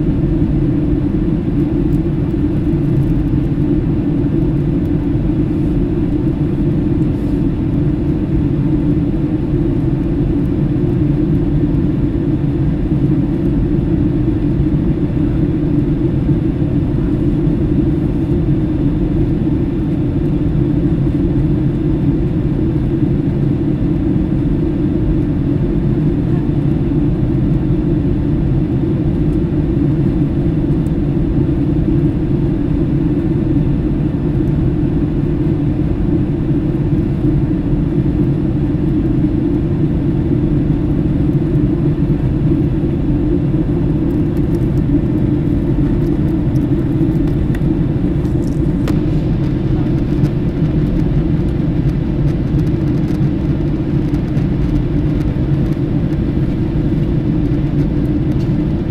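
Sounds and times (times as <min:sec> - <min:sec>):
aircraft cabin rumble: 0:00.0 - 0:58.9.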